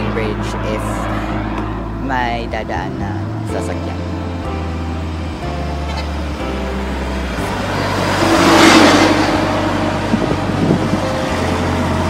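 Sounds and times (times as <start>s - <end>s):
low rumble of traffic: 0.0s - 12.0s
vehicle passing close by: 0.0s - 12.0s.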